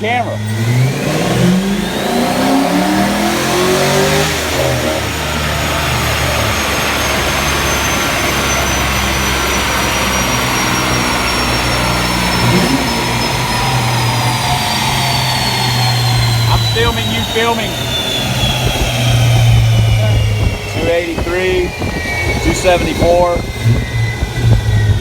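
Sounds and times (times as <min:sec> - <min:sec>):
car engine revving: 0:00.0 - 0:25.0
dyno rollers whining: 0:00.0 - 0:25.0.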